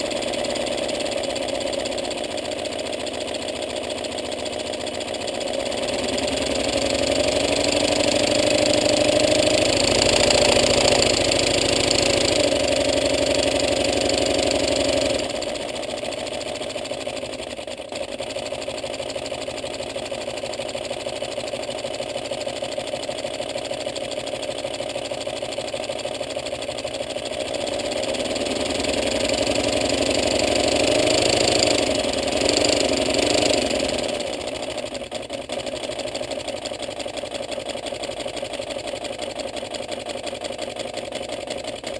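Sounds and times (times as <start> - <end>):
small air engine clattering: 0.0 - 41.9.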